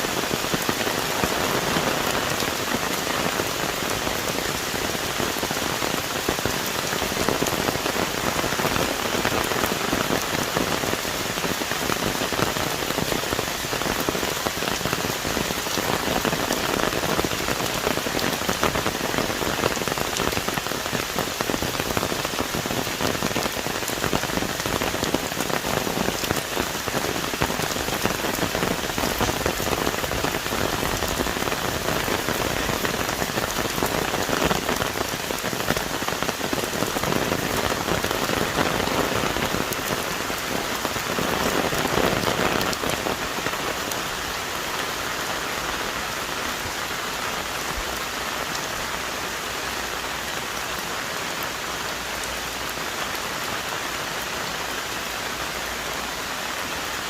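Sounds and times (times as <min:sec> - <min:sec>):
heavy rain on forest leaves: 0:00.0 - 0:57.0.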